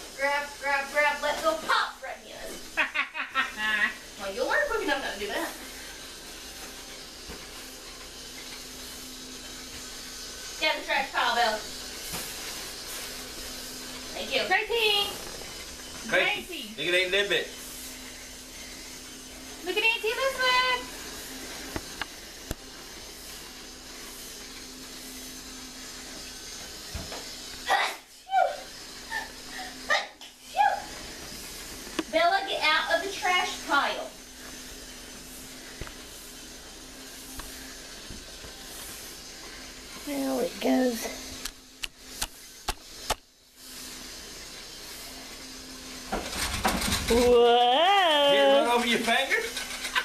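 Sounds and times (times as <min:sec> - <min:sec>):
toy train motor whirring: 0:00.0 - 0:50.0.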